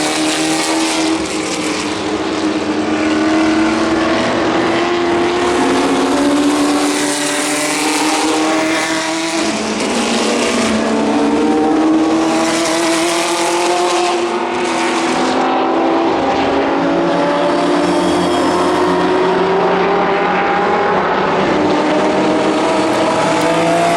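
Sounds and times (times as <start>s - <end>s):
racing car engines at full throttle: 0.0s - 23.9s.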